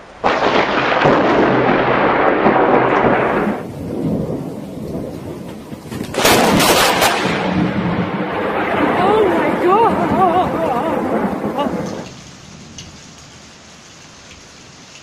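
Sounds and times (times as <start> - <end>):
thunder rumbling: 0.0 - 12.8
crackling thunderclap: 0.0 - 13.0.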